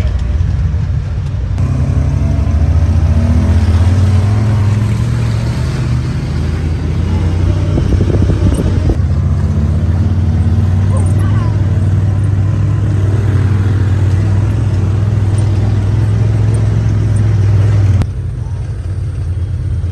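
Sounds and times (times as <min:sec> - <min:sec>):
vehicle engine running: 0:00.0 - 0:19.9.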